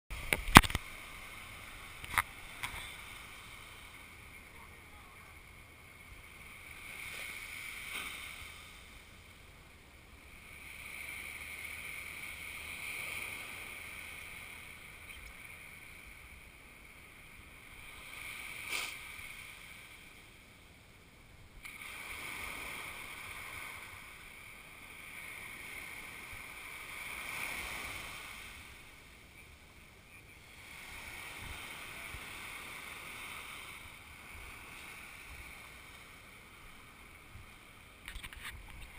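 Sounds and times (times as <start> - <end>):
waves breaking on beach: 0.1 - 38.9.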